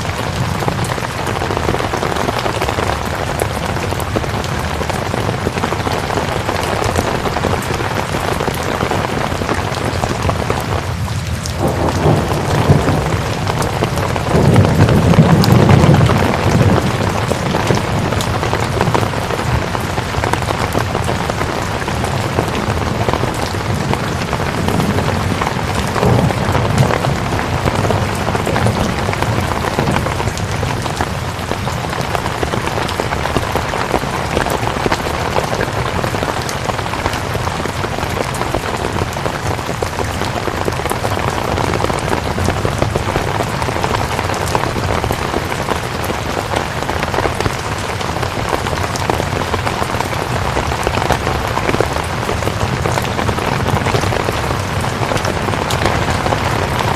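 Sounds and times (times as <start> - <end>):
steady rain pattering: 0.0 - 56.9.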